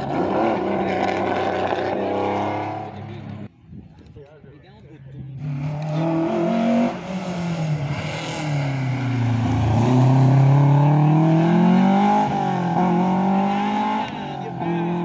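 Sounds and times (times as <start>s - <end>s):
rally car engine accelerating: 0.0s - 3.5s, 5.4s - 15.0s.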